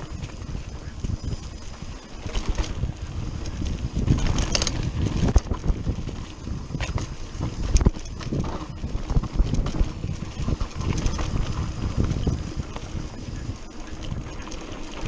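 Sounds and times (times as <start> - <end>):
bike rattling and knocking: 0.0 - 15.0.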